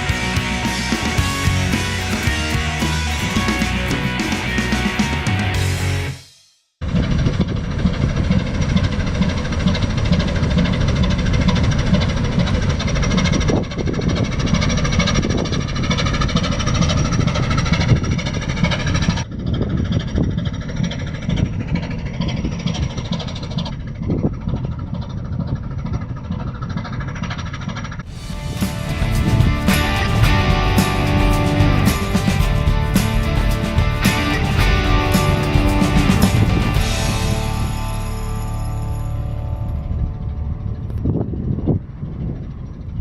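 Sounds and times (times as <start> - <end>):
ship engine running: 0.0 - 6.1, 6.8 - 43.0.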